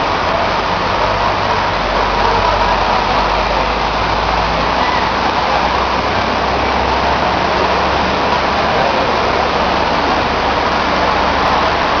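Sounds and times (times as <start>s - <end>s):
heavy rain hissing: 0.0s - 12.0s
vehicle engine idling: 0.0s - 12.0s.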